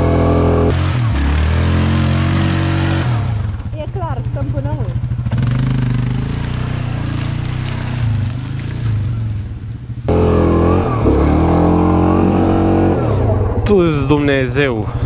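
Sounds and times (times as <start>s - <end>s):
atv engine revving: 0.0s - 14.6s.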